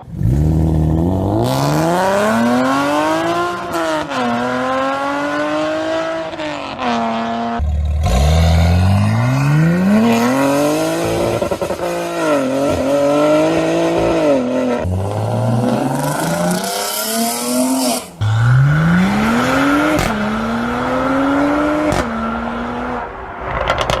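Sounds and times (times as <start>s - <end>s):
car engines revving through gears: 0.0s - 24.0s.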